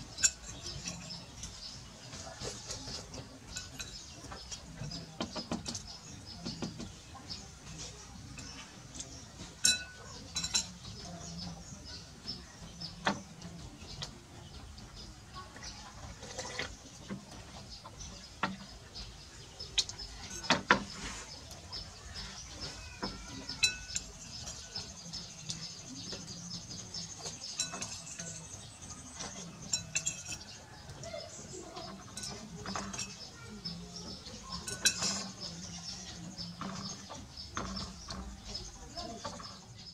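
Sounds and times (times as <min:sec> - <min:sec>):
metal spoon clinking on ceramic bowls: 0:00.0 - 0:14.0, 0:16.4 - 0:39.6.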